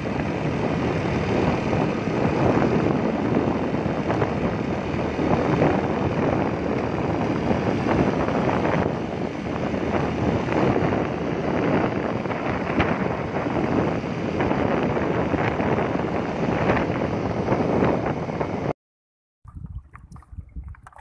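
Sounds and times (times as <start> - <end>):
road vehicle running: 0.0 - 18.7
wind buffeting microphone: 0.0 - 18.7, 19.5 - 21.0.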